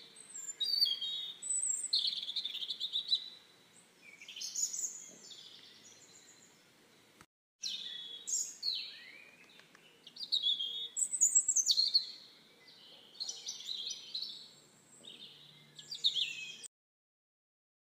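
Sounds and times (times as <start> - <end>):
songbirds singing and chirping: 0.0 - 16.7.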